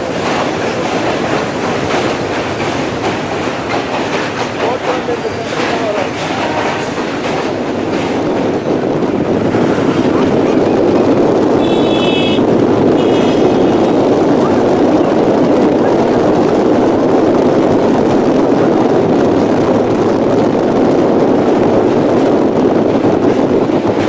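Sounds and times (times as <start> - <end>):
heavy wind noise: 0.0 - 24.0
train rumbling: 0.0 - 24.0.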